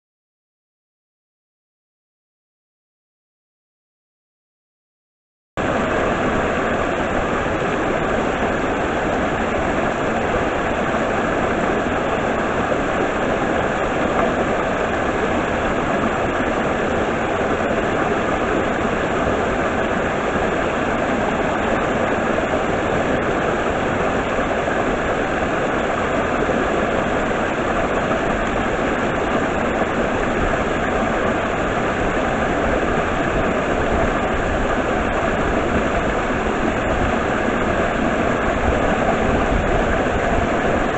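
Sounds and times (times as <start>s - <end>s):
stream and waterfall rushing: 5.6s - 40.9s.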